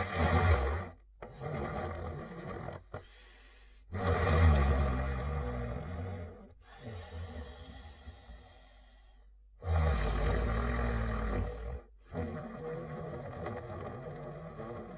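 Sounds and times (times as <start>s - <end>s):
cartoon dog snoring: 0.0s - 3.2s, 3.8s - 8.9s, 9.6s - 14.9s
quiet breath: 0.0s - 14.9s.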